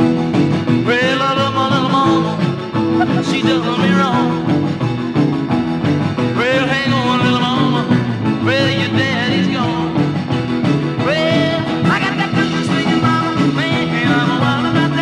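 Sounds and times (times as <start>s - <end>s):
band playing upbeat song: 0.0s - 15.0s.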